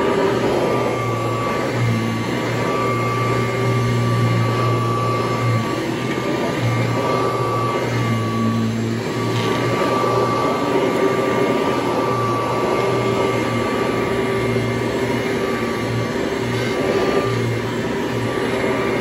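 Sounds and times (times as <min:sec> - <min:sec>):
upright vacuum cleaner running: 0:00.0 - 0:19.0.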